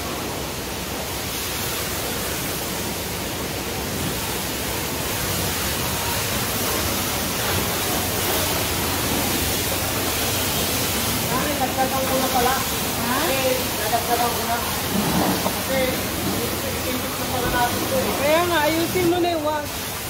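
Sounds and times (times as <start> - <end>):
high-pressure water spraying: 0.0 - 20.0.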